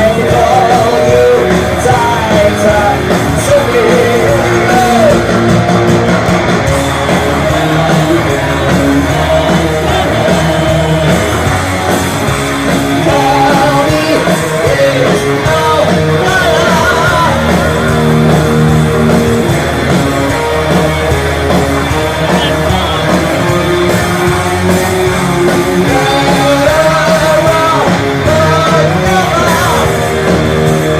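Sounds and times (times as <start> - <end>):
bass guitar: 0.0 - 30.9
distorted electric guitars: 0.0 - 30.9
drums: 0.0 - 30.9.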